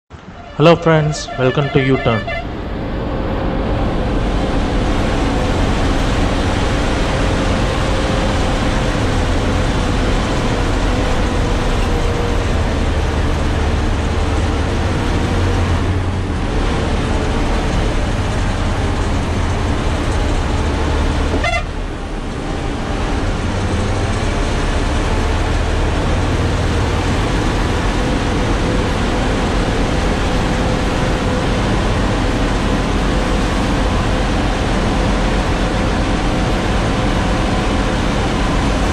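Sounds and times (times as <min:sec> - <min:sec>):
truck diesel engine straining: 0:00.1 - 0:38.9.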